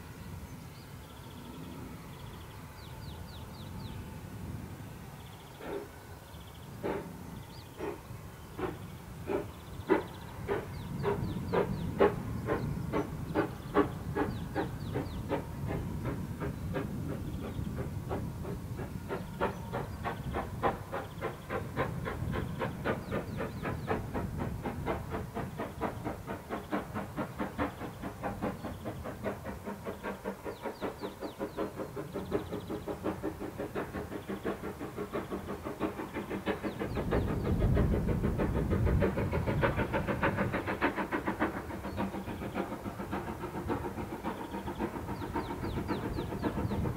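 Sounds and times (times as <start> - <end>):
steam locomotive exhaust beats: 0.0 - 46.9.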